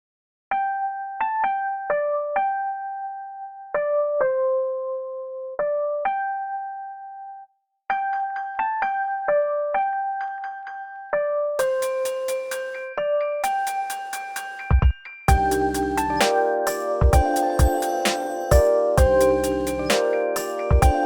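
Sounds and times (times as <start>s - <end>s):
piano-toned keyboard melody: 0.5s - 21.0s.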